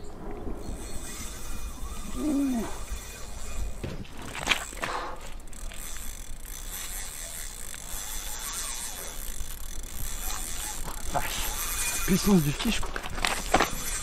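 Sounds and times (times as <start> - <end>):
fishing reel ratcheting and whirring: 0.7 - 14.0.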